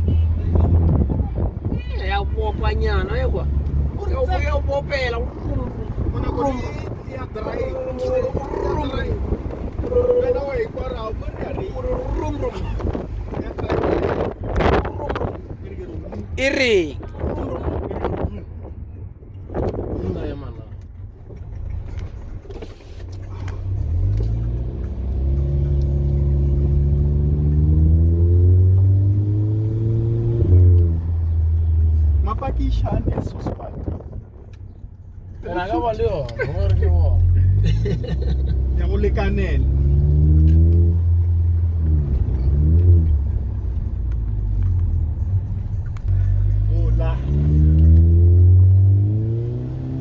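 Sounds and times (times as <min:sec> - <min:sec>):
car engine accelerating: 0:00.0 - 0:18.6, 0:19.3 - 0:50.0.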